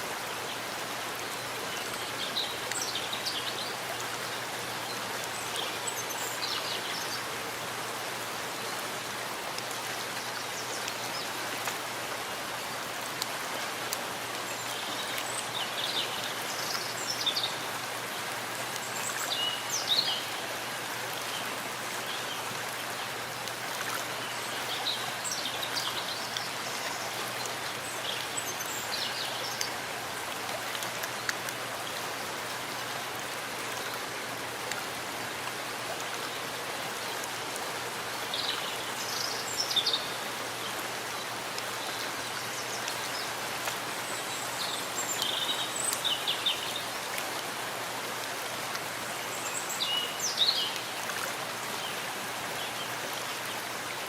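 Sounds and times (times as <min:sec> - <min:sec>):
rain falling in forest: 0:00.0 - 0:54.0.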